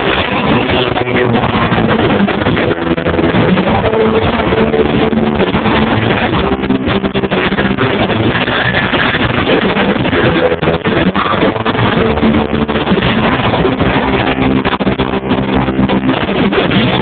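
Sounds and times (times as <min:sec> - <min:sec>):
bass guitar: 0:00.0 - 0:17.0
distorted electric guitars: 0:00.0 - 0:17.0
drums: 0:00.0 - 0:17.0.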